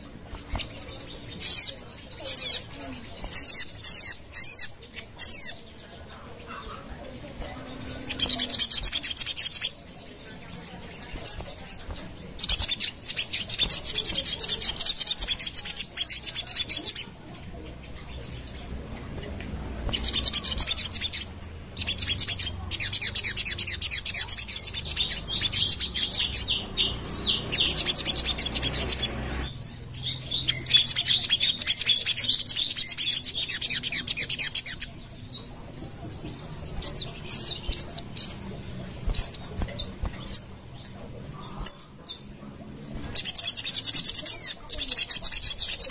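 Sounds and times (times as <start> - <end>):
bird chattering trills: 0.0 - 5.8, 6.4 - 45.9.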